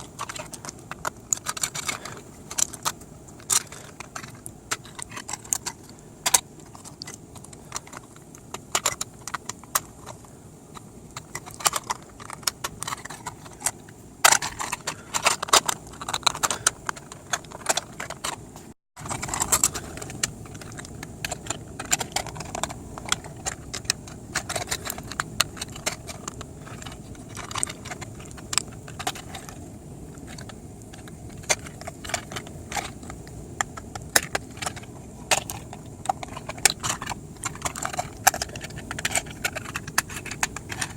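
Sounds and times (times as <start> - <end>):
plastic panels clicking and rattling: 0.0 - 40.9.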